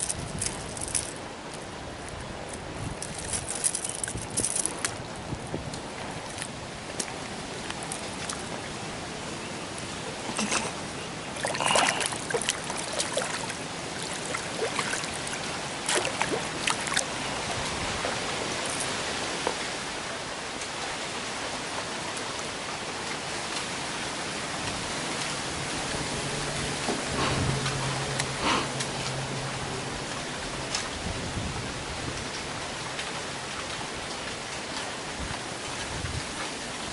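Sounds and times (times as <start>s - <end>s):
flowing water: 0.0s - 36.9s.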